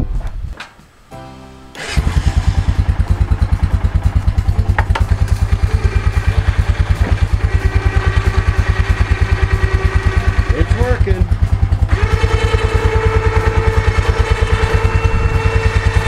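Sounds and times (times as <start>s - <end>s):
engine idling: 1.8s - 16.0s.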